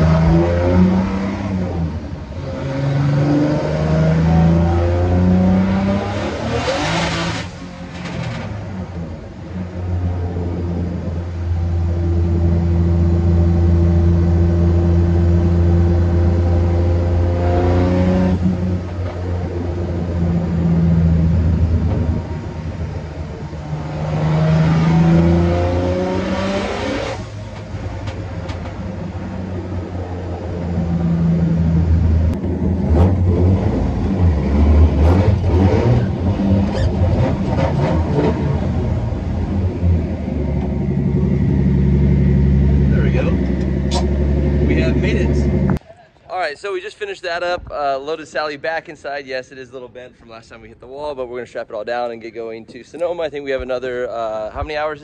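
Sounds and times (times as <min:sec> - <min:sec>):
race car engine revving: 0:00.0 - 0:45.8.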